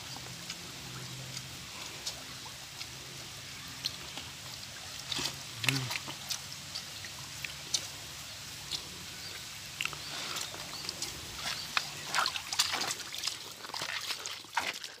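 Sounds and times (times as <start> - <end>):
stream water flowing: 0.0 - 15.0.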